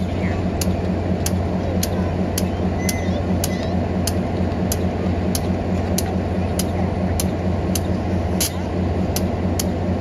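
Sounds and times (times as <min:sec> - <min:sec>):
moving vehicle rumble: 0:00.0 - 0:10.0
sharp regular tick: 0:00.6 - 0:02.5, 0:03.4 - 0:09.8.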